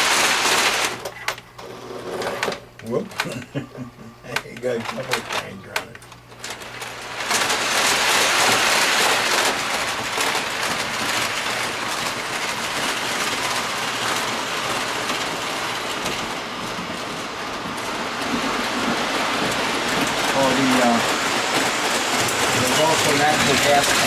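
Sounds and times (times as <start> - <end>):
model train wheels clattering: 0.0 - 24.0.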